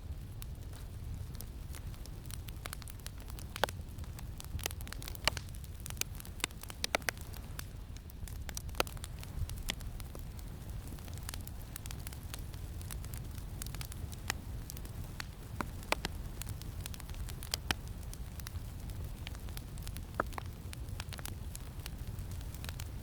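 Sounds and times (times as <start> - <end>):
campfire crackling and popping: 0.0 - 23.0
low rumble of wind: 0.0 - 23.0.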